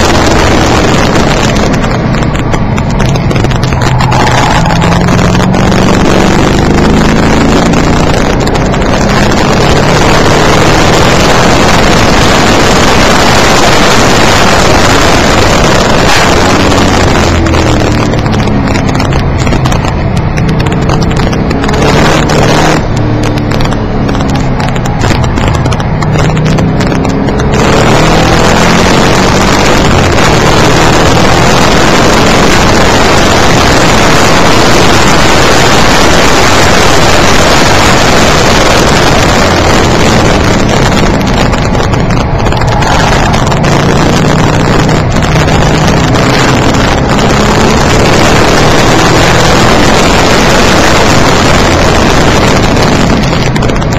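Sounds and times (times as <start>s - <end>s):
car engine revving: 0.0s - 53.9s
loud rushing road noise: 0.0s - 53.9s.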